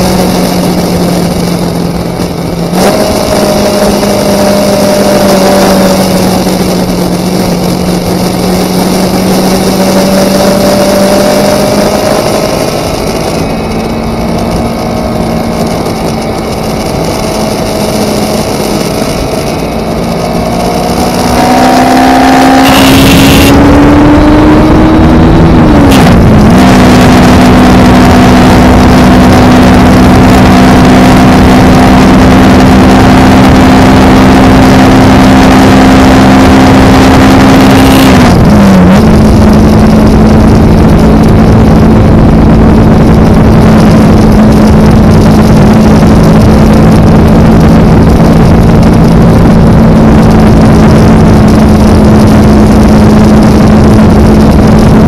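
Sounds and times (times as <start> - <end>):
motorcycle engine: 0.0 - 55.0
wind on microphone: 0.0 - 55.0.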